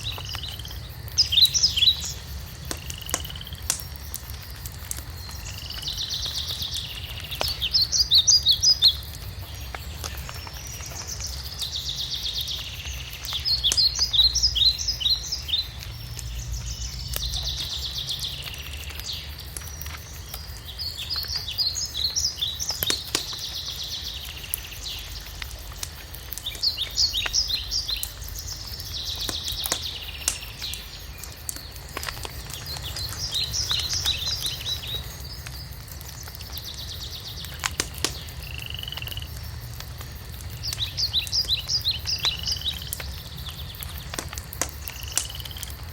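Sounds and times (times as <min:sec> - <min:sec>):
songbird singing: 0:00.0 - 0:45.9
wood fire crackling: 0:00.0 - 0:45.9.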